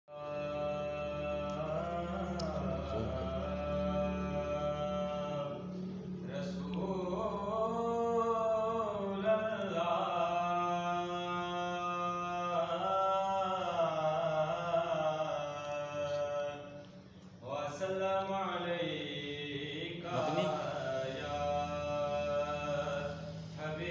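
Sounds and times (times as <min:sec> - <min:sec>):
man chanting melodically: 0:00.1 - 0:16.8, 0:17.4 - 0:23.9.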